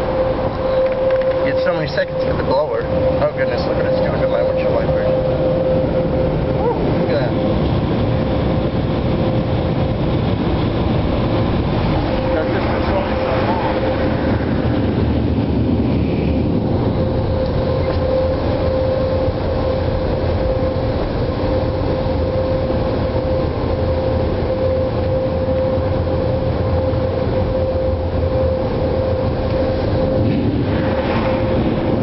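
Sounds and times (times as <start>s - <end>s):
dryer blowers rushing air: 0.0s - 32.0s
mid-pitched blower hum: 0.0s - 32.0s.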